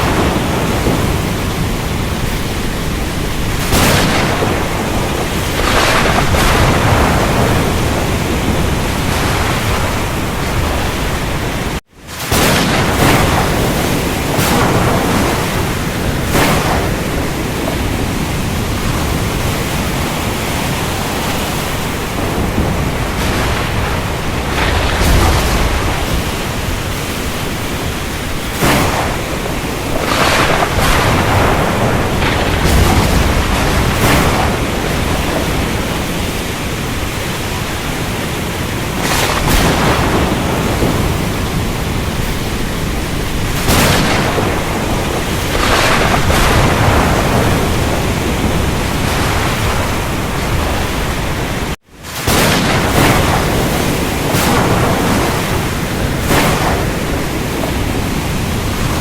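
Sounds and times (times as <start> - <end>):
rain: 0.0 - 59.0
surf: 0.0 - 59.0
thunder crashes: 0.0 - 59.0
wind roaring: 0.0 - 59.0.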